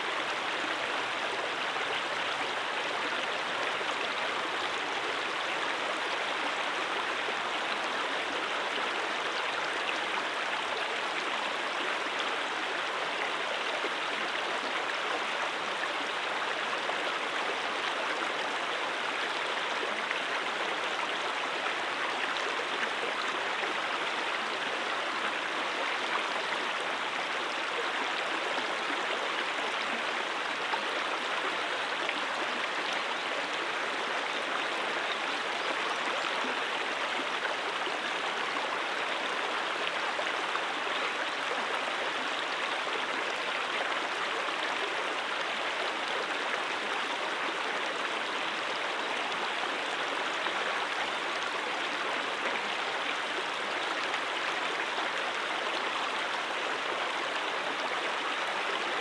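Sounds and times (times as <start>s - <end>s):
brook water running: 0.0s - 59.0s.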